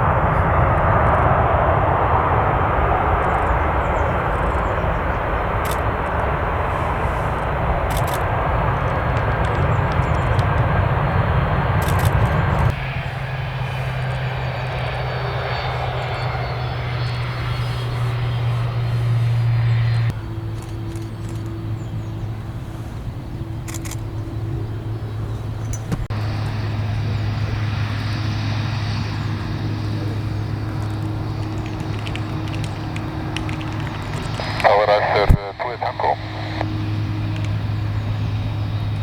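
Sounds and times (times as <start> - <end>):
airliner engines running: 0.0 - 39.0
engine noise with low hum: 0.0 - 39.0.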